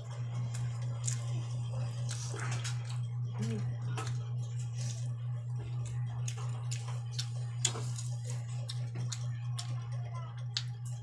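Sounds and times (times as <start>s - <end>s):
steady low hum: 0.0s - 11.0s
person chewing and crunching: 0.4s - 9.8s.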